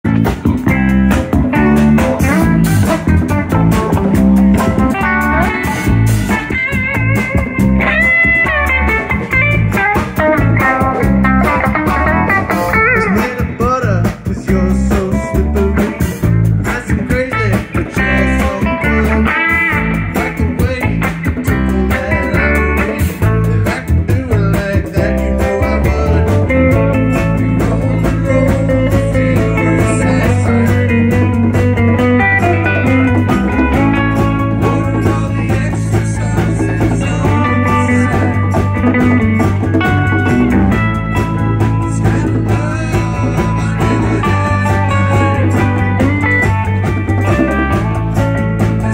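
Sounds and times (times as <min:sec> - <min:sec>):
electric guitar with bent notes: 0:00.0 - 0:48.9
steady drum beat: 0:00.0 - 0:48.9.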